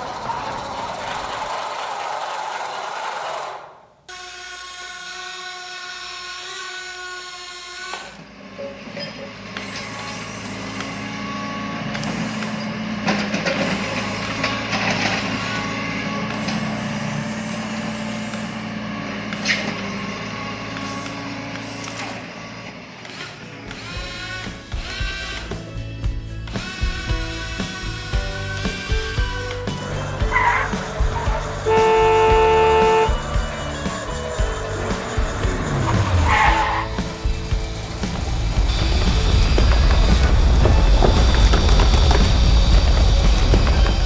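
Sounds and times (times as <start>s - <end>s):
electric motors whining and humming: 0.0s - 44.0s.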